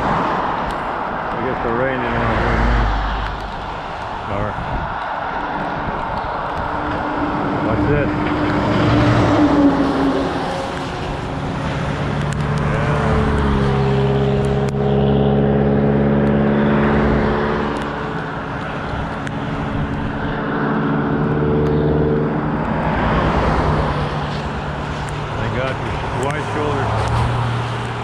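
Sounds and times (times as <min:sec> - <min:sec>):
wind and wet-road hiss: 0:00.0 - 0:28.0
vehicle engine droning: 0:00.7 - 0:28.0.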